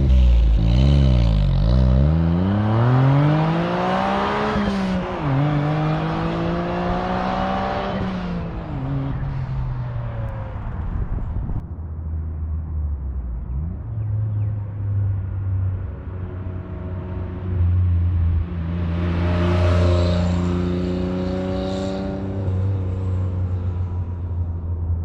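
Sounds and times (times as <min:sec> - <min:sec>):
car accelerating and driving past: 0:00.0 - 0:11.2, 0:13.4 - 0:24.6.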